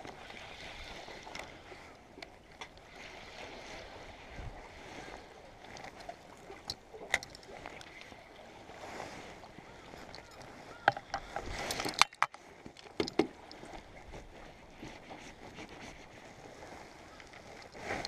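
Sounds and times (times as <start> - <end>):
water lapping against concrete: 0.0 - 18.0.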